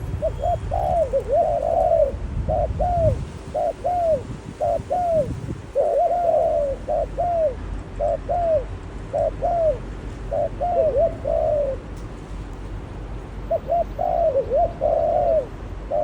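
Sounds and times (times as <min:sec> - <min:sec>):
doves cooing: 0:00.0 - 0:12.8, 0:13.4 - 0:16.0.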